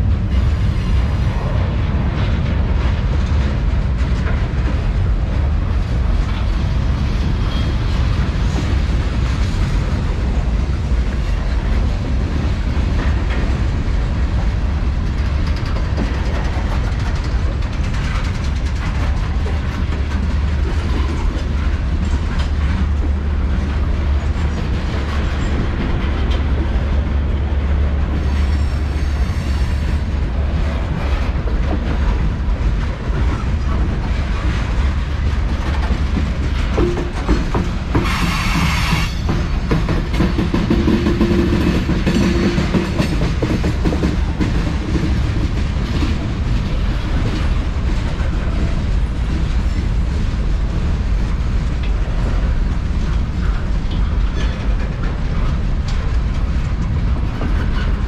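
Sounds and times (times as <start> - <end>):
freight train rumbling past: 0.0 - 58.0
wheels clacking over rail joints: 0.0 - 58.0.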